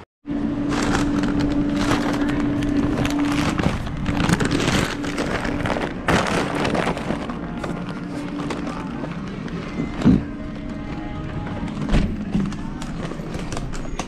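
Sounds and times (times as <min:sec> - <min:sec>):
constant low hum: 0:00.3 - 0:14.0
kitchen equipment rushing noise: 0:00.5 - 0:14.0.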